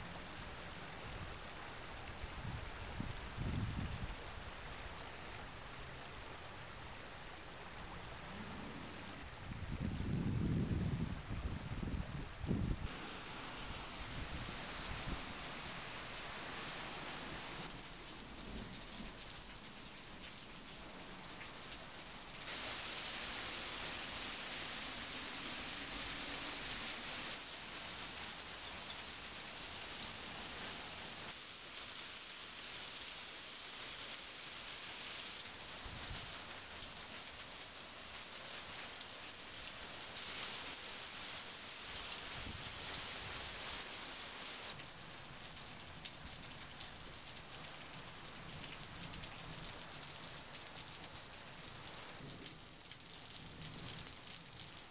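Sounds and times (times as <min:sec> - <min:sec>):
heavy rain and hail falling: 0:00.0 - 0:54.9.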